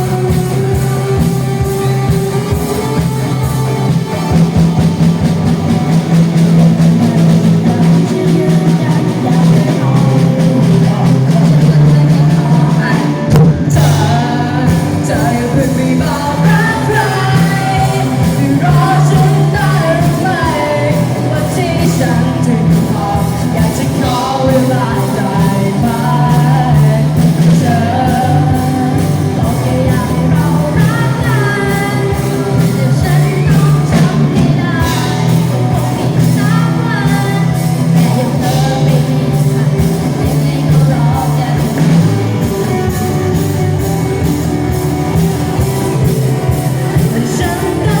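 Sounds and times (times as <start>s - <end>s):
band playing rock music: 0.0s - 48.0s
person singing: 0.0s - 48.0s.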